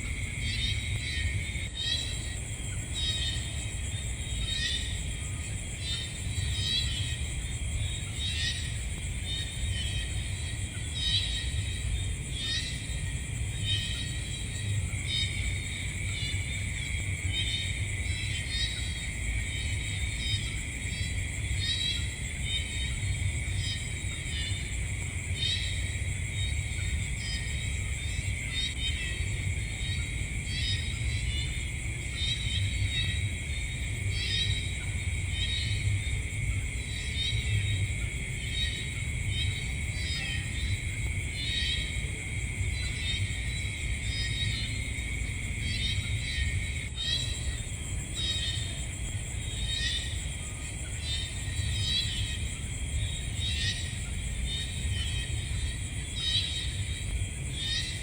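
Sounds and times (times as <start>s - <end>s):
constant low rumble: 0.0s - 58.0s
insects chirping: 0.0s - 58.0s
insects trilling: 0.0s - 58.0s.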